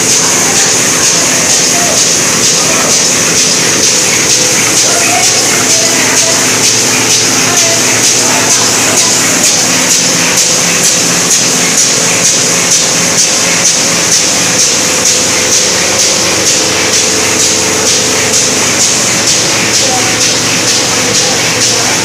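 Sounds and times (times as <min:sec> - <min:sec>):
machine clattering rhythmically: 0:00.0 - 0:22.0.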